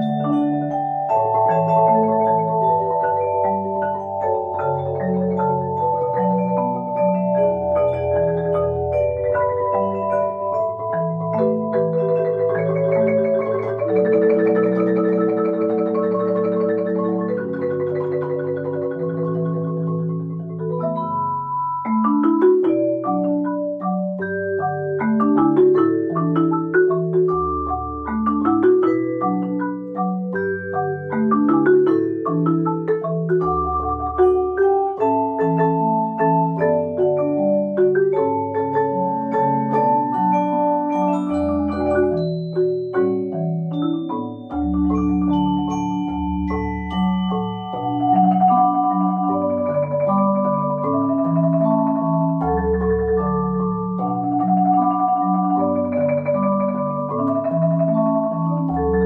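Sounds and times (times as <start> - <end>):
marimbas and vibraphone playing: 0.0 - 59.0.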